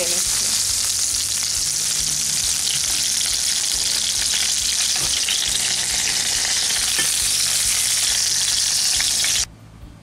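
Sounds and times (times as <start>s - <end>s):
oil sizzling: 0.0s - 9.5s.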